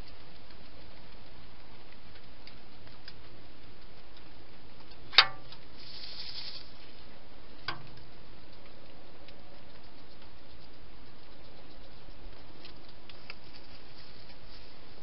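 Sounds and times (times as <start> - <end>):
hedgehog rustling: 0.0 - 15.0.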